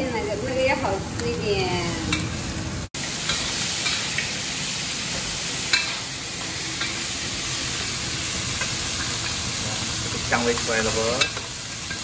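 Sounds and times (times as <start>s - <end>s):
meat sizzling in a wok: 0.0s - 12.0s.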